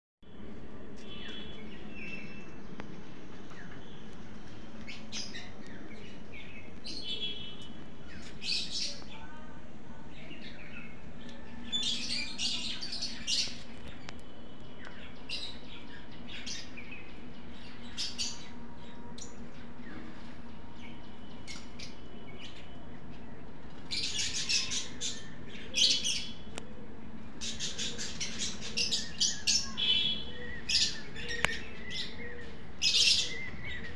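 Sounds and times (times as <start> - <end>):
small birds chirping: 1.0 - 33.9.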